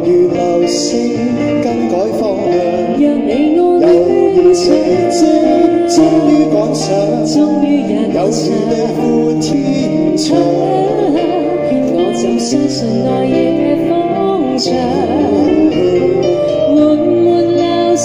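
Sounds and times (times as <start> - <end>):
live band with guitar: 0.0 - 18.0
man and woman singing duet: 0.0 - 18.0.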